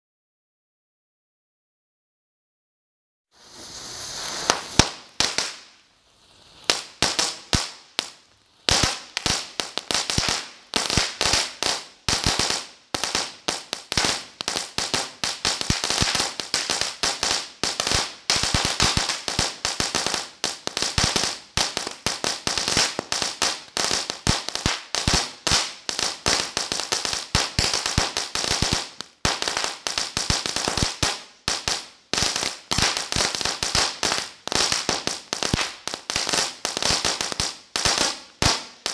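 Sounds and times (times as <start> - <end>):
firework crackling barrage: 3.4 - 38.9.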